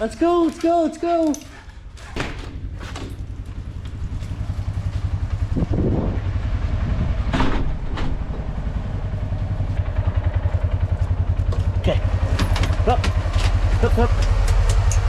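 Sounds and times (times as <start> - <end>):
utility vehicle engine idling: 1.4 - 15.0.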